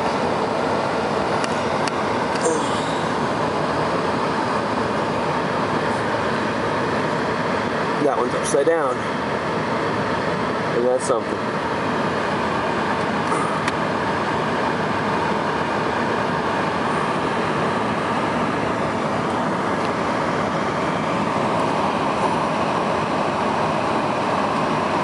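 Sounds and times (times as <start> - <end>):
road and tyre noise in vehicle cabin: 0.0 - 25.0.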